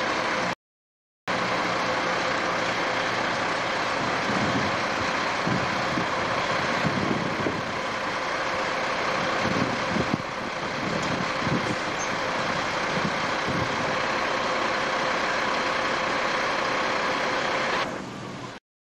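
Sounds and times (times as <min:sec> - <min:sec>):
diesel truck engine idling: 0:00.0 - 0:00.6, 0:01.3 - 0:18.6.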